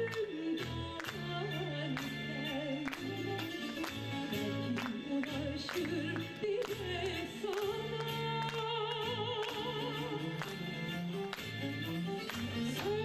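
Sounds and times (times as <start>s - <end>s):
soprano singing with vibrato: 0.0s - 10.9s, 12.6s - 13.0s
instrumental accompaniment: 0.0s - 13.0s.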